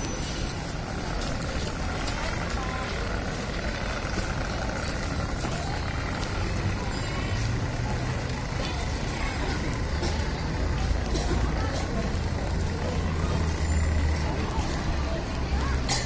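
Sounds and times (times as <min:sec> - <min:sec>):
crowd hubbub: 0:00.0 - 0:16.0
low rumble of traffic: 0:00.0 - 0:16.0.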